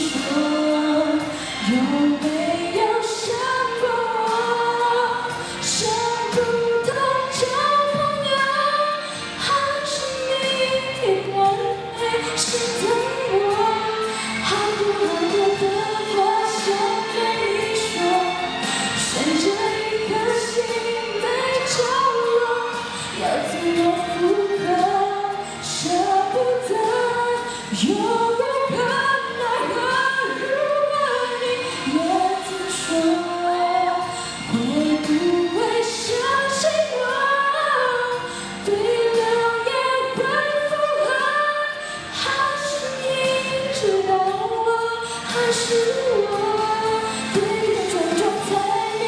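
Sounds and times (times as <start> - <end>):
woman singing into microphone: 0.0 - 49.0.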